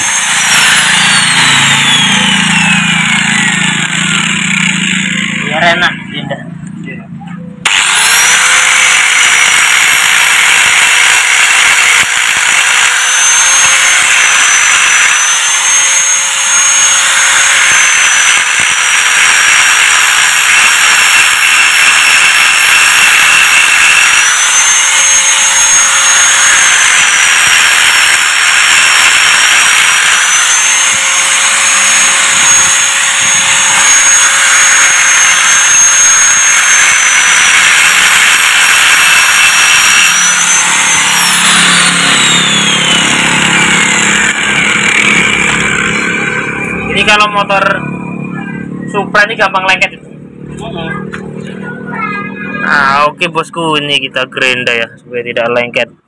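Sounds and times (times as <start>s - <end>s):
grinder scraping metal: 0.0s - 6.4s, 7.6s - 50.6s
angle grinder whine: 0.0s - 55.8s.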